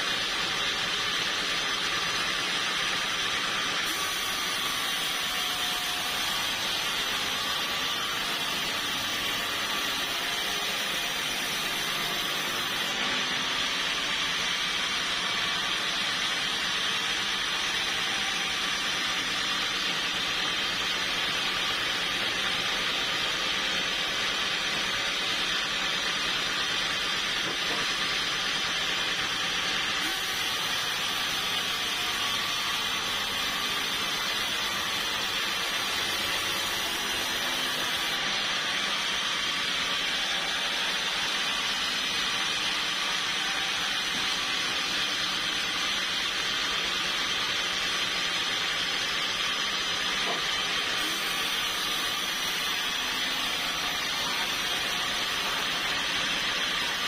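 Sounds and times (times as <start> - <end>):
sawmill saw cutting wood: 0.0 - 57.0.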